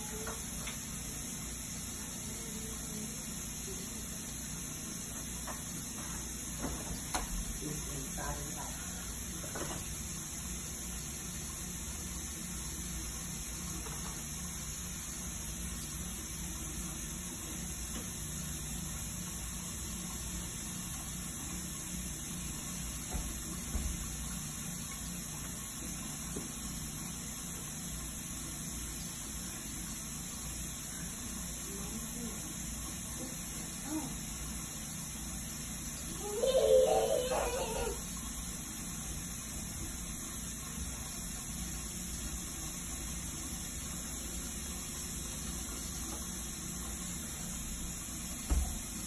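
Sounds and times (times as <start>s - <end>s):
low hum and hiss room noise: 0.0s - 49.0s.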